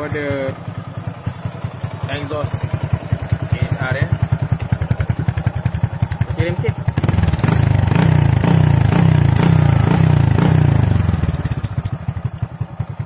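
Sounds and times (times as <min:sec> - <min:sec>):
motorcycle engine idling: 0:00.0 - 0:13.0
motorcycle engine revving: 0:00.0 - 0:13.0.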